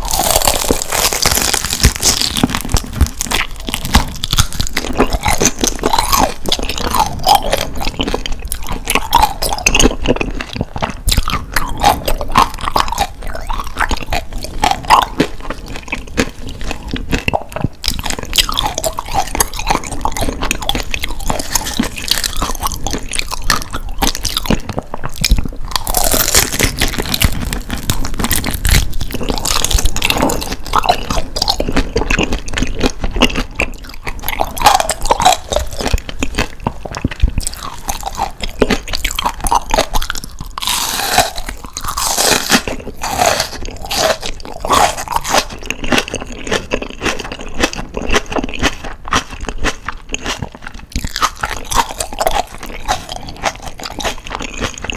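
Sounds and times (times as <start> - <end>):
crunchy chewing: 0.0 - 54.9.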